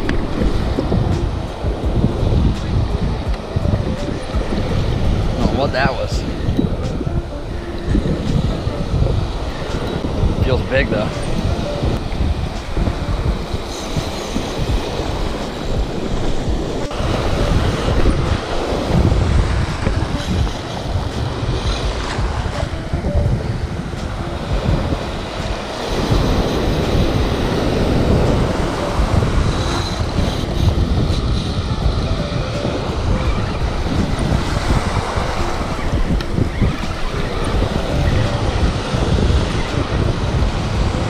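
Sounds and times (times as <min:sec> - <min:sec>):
ocean surf breaking: 0:00.0 - 0:41.0
wind buffeting microphone: 0:00.0 - 0:41.0.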